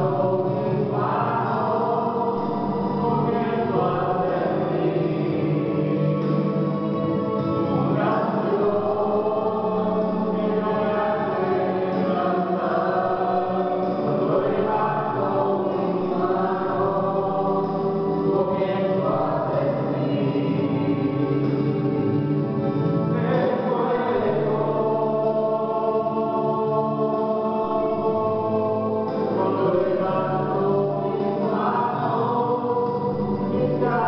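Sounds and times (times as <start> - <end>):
people singing worship song: 0.0 - 34.0.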